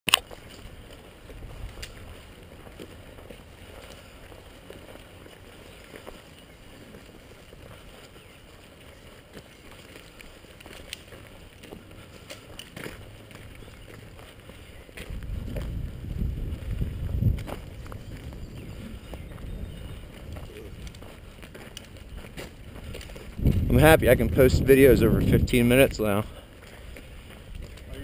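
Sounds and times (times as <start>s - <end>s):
low wind rumble: 0.4s - 9.0s, 13.1s - 28.0s.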